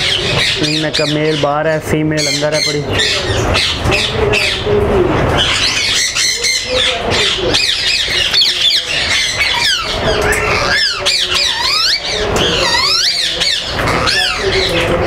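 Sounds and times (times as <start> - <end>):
parakeets squawking: 0.0 - 15.0.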